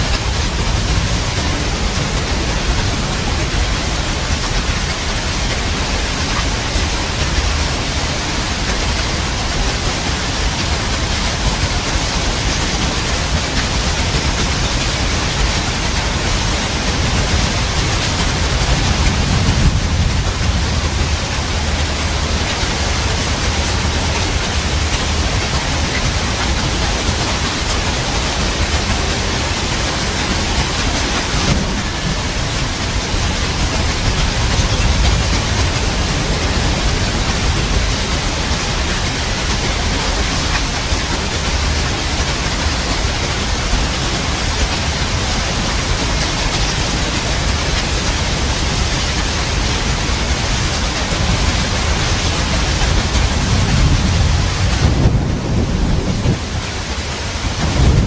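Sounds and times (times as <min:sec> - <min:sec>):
low rumble of thunder: 0:00.0 - 0:58.0
steady rain: 0:00.0 - 0:58.0.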